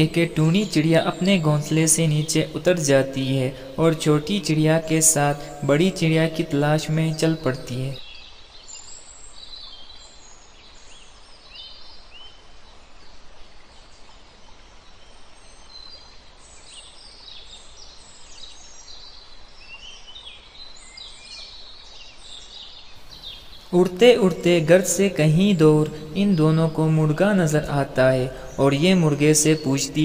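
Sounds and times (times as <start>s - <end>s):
songbirds chirping: 0.0s - 30.0s
steady low hiss: 0.0s - 30.0s.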